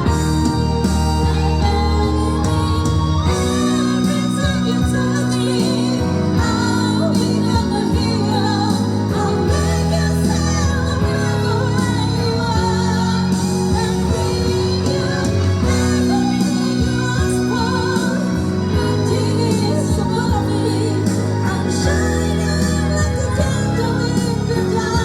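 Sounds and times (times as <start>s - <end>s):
backing track with bass: 0.0s - 25.0s
women singing pop ballad: 0.0s - 25.0s.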